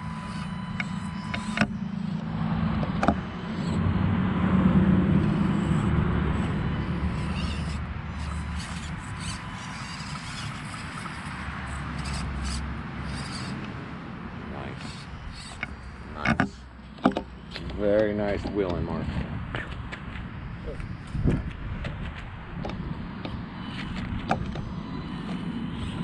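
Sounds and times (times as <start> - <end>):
small electric motor whirring: 0.0 - 26.0.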